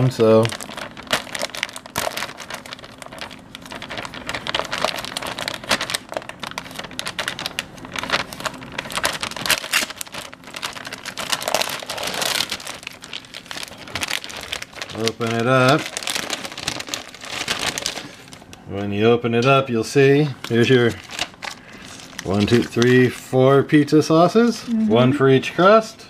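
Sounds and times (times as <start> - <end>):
plastic bag crinkling: 0.0 - 18.6, 20.0 - 23.3.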